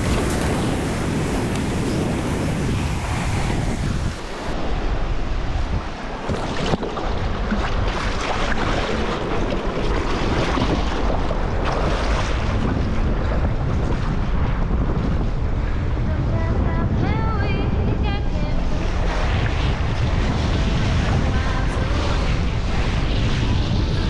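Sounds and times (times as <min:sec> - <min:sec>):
sea water washing: 0:00.0 - 0:15.9, 0:18.6 - 0:24.0
strong wind buffeting microphone: 0:00.0 - 0:24.0.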